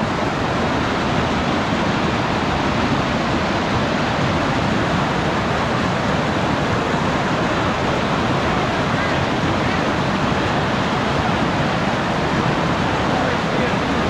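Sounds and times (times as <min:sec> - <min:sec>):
rushing whitewater rapids: 0:00.0 - 0:14.0.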